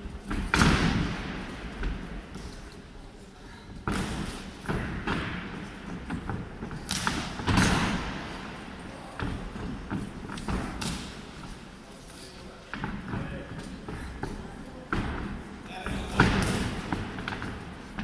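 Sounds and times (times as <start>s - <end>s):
feet striking ring canvas: 0.0s - 2.9s, 3.7s - 18.0s.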